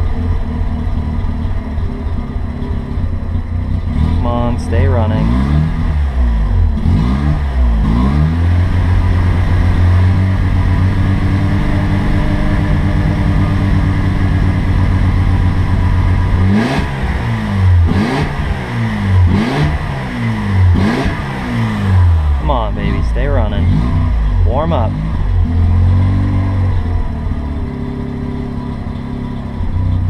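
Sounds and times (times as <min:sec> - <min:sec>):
rotary engine running and revving: 0:00.0 - 0:30.0.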